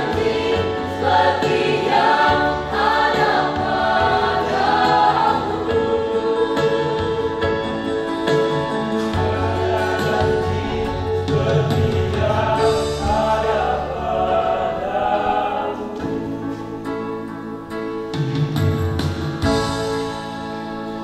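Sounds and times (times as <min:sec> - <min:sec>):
mixed choir singing gospel: 0:00.0 - 0:17.6.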